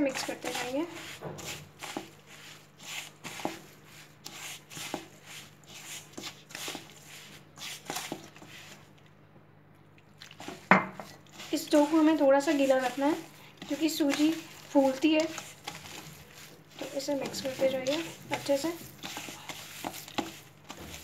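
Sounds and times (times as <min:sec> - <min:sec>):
gritty rustling of semolina: 0:00.0 - 0:08.9, 0:10.3 - 0:21.0.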